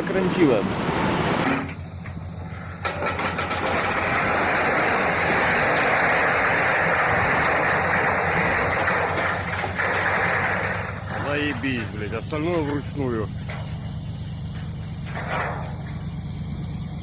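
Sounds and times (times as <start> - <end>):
train rushing past: 0.0 - 15.8
low engine hum: 0.0 - 17.0.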